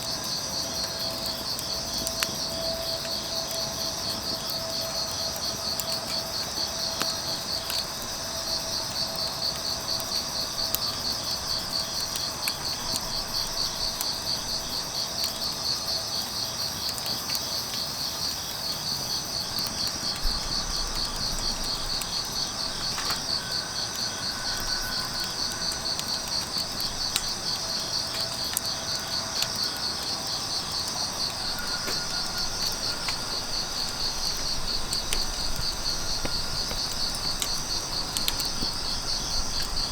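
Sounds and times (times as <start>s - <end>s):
insects trilling: 0.0s - 39.9s
wood fire crackling: 0.0s - 39.9s.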